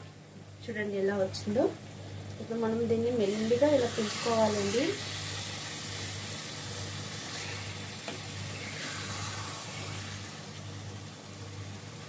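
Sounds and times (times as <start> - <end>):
curry sizzling in a pan: 0.0 - 12.0.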